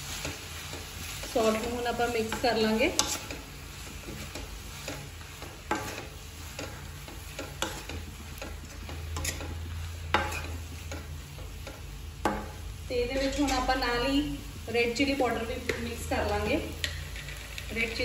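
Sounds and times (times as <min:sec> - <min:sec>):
spatula scraping vegetables in pan: 0:00.0 - 0:18.0
vegetables sizzling: 0:00.0 - 0:18.0.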